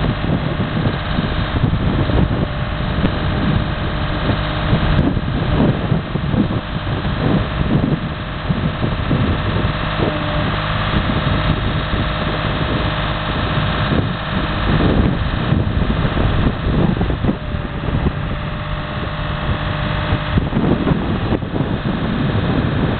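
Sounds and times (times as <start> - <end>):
engine running steadily: 0.0 - 22.9
wind buffeting microphone: 0.0 - 22.9.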